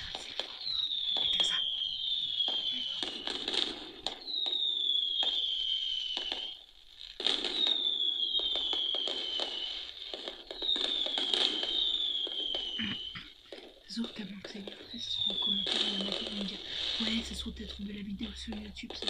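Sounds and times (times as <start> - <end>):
high falling firework whistle: 0.0 - 13.3, 15.2 - 17.4
firework bursts and crackles: 0.0 - 19.0.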